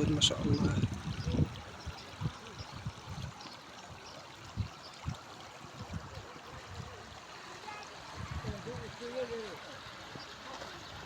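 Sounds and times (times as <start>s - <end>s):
river flowing over rocks: 0.0s - 11.0s.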